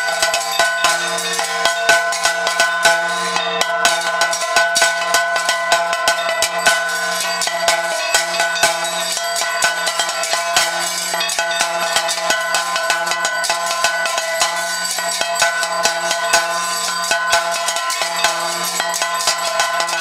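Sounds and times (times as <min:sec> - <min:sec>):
sharp percussion strikes: 0:00.0 - 0:20.0
temple bells ringing: 0:00.0 - 0:20.0.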